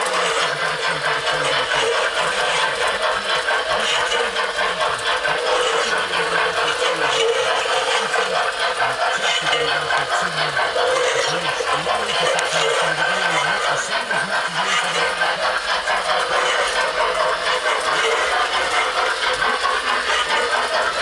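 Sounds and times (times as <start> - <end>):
model train whirring and rattling: 0.0 - 21.0.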